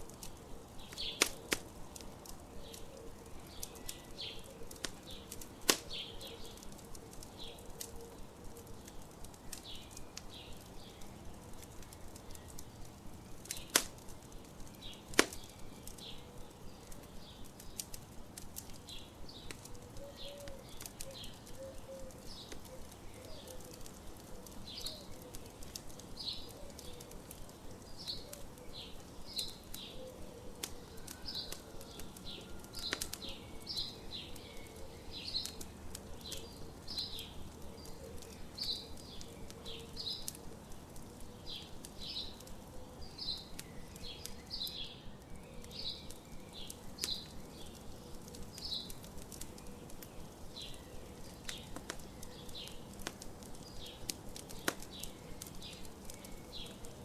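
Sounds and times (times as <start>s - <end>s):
campfire crackling and popping: 0.0s - 57.0s
birds chirping: 0.1s - 57.0s.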